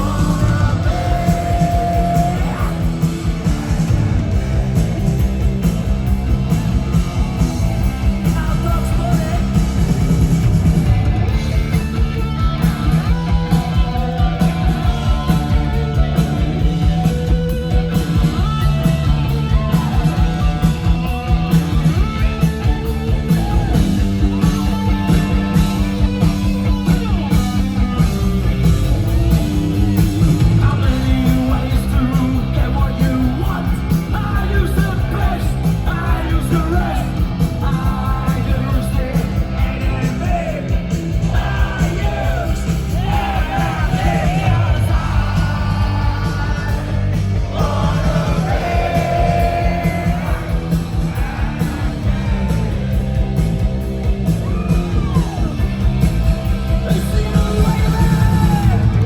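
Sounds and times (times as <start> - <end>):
drums: 0.0 - 59.0
punk rock band playing live: 0.0 - 59.0.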